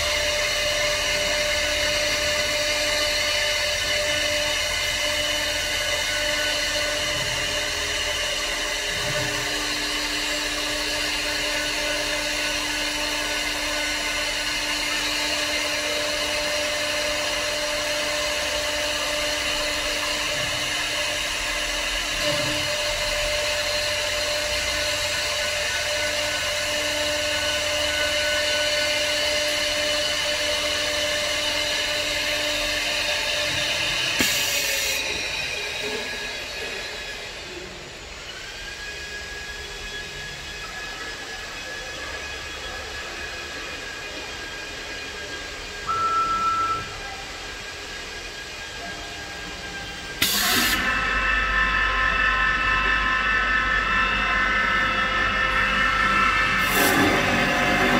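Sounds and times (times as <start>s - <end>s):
lathe machine whine: 0.0s - 57.9s
low machine hum: 0.0s - 57.9s.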